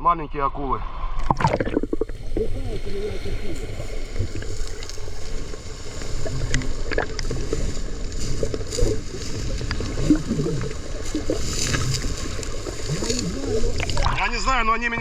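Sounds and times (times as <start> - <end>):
water sloshing and gurgling: 0.8 - 14.6
bubbly gurgles: 1.1 - 14.4.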